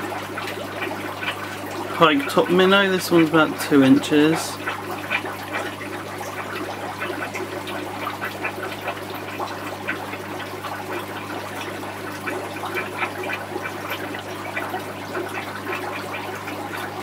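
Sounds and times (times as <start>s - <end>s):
water trickling and bubbling: 0.0s - 17.0s.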